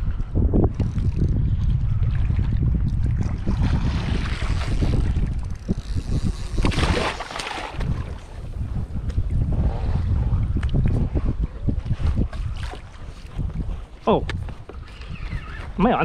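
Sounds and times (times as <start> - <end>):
wind buffeting microphone: 0.0 - 16.0
water washing against hull: 0.6 - 16.0.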